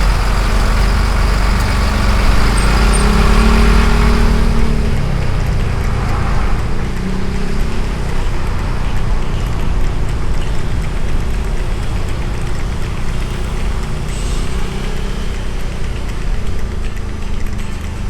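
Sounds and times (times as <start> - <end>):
motorbike engine running: 0.0 - 18.0.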